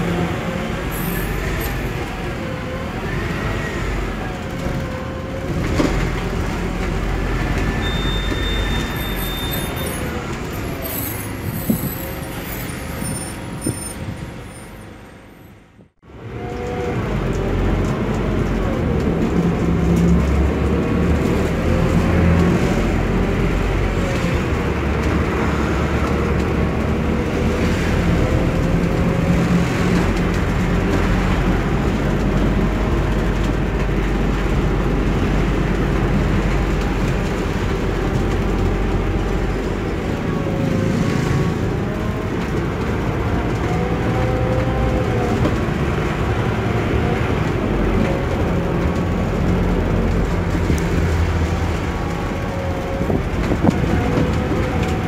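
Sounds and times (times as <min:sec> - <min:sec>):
bus engine and road drone: 0:00.0 - 0:55.0.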